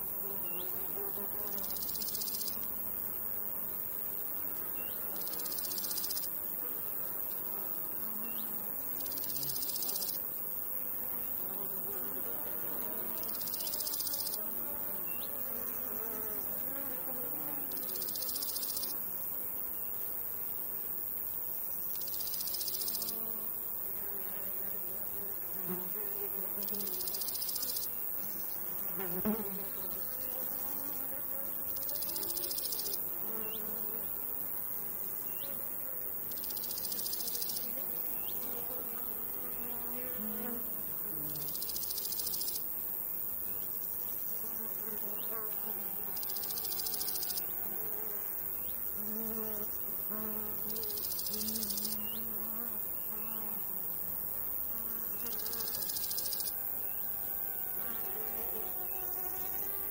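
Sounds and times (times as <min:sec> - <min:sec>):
crickets chirring: 0:00.0 - 0:59.9
flies and bees buzzing: 0:00.0 - 0:59.9.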